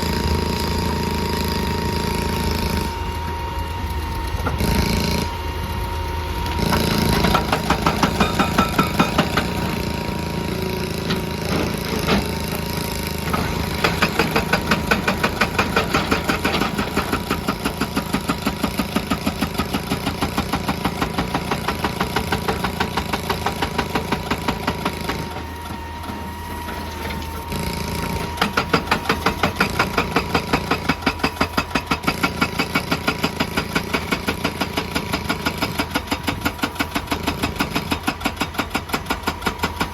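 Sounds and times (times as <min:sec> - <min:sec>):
diesel engine running: 0:00.0 - 0:39.9
hydraulic breaker hammering rock: 0:06.6 - 0:39.9.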